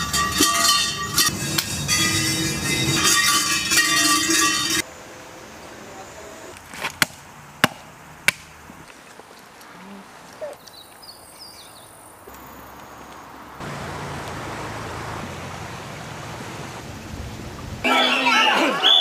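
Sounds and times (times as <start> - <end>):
noisy hiss: 1.0 - 10.3, 11.1 - 18.9.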